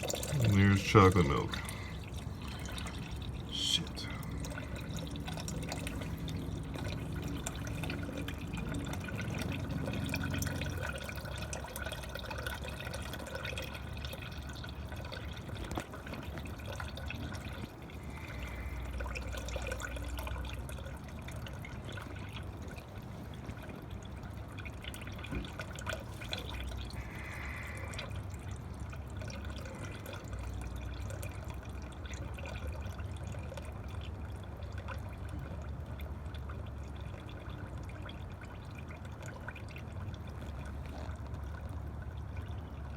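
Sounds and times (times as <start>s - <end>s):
oil trickling into a pan: 0.0s - 42.9s.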